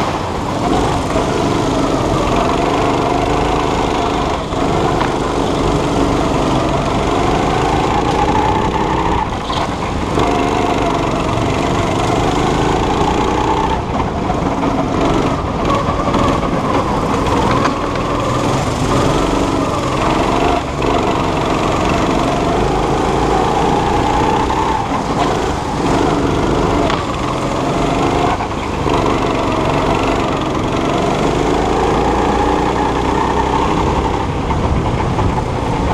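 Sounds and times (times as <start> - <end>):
go-kart engine revving: 0.0 - 35.9.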